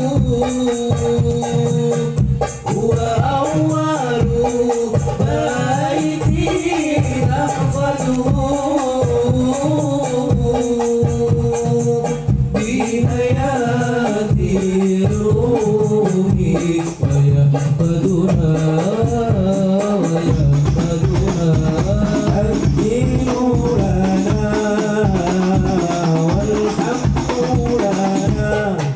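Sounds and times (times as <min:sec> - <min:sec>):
devotional singing over pa: 0:00.0 - 0:28.9
hand percussion: 0:00.0 - 0:28.9.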